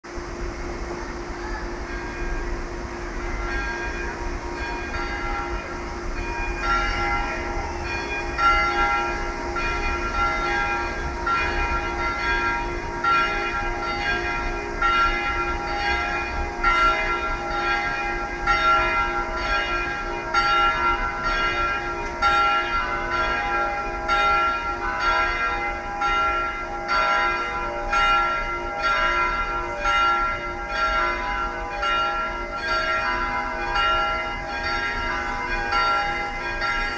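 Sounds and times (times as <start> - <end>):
church bells ringing: 0.0 - 36.9.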